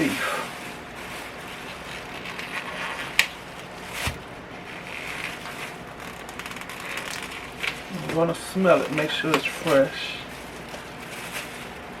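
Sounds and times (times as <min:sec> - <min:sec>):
package rustling: 0:00.0 - 0:12.0.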